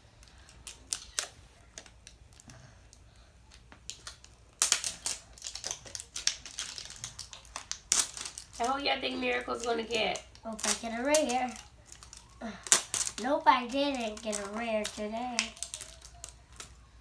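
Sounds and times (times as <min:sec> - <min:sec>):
plastic wrapping crinkling: 0:00.0 - 0:02.5, 0:03.4 - 0:17.0.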